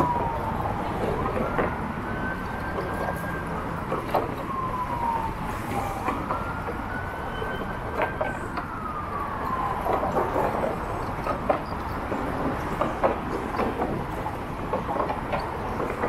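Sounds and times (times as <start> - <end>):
city traffic noise: 0.0 - 16.0
siren wailing: 0.0 - 16.0.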